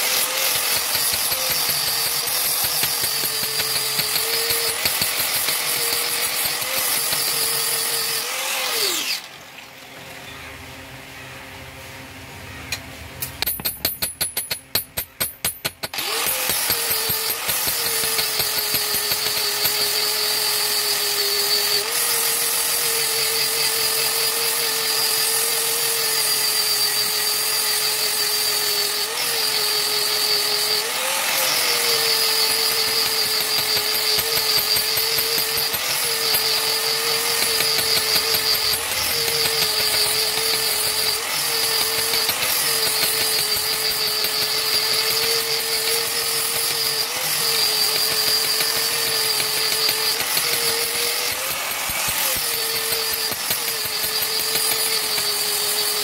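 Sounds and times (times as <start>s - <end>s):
angle grinder whining: 0.0s - 9.5s, 15.9s - 56.0s.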